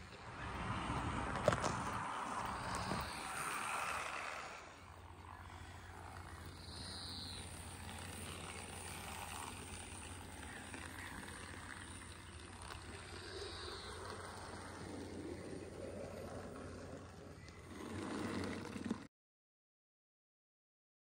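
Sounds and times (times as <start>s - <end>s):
wheels rolling on rails: 0.0s - 19.1s
electric motor humming: 0.4s - 19.1s.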